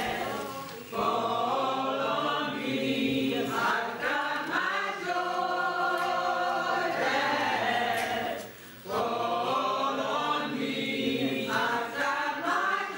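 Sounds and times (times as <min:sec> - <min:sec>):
church choir singing: 0:00.0 - 0:12.9.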